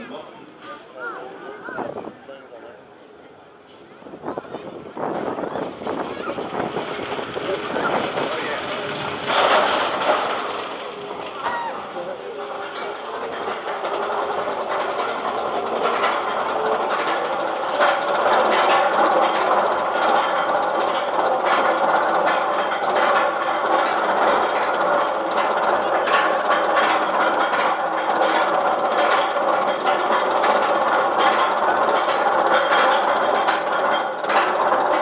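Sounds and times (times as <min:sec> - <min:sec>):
lift chain running: 0:04.7 - 0:35.0
ratchet clacking rapidly: 0:05.0 - 0:35.0.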